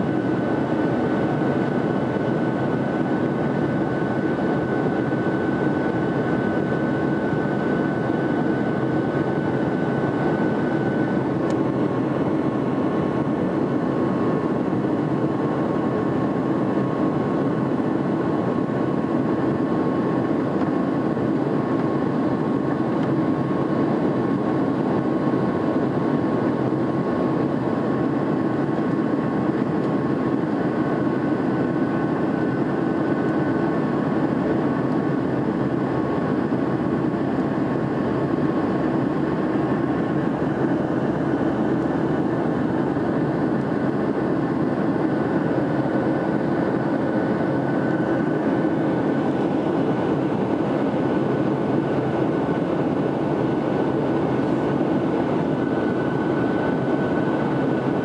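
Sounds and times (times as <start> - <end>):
jet cabin engine and airflow noise: 0.0 - 58.0.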